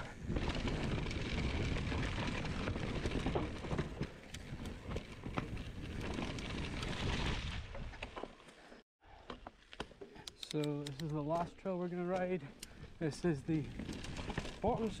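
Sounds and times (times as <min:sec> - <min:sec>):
bike tyres rolling on dirt: 0:00.0 - 0:09.8, 0:11.1 - 0:15.0.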